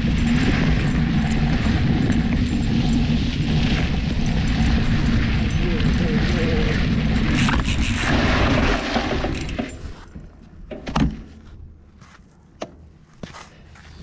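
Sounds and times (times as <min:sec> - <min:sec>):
bike tyres rolling on dirt: 0:00.0 - 0:12.2.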